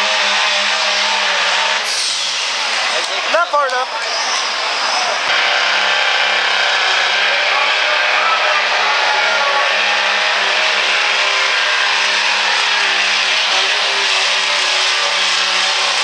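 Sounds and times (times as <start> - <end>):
diesel truck engine at full throttle: 0.0 - 16.0.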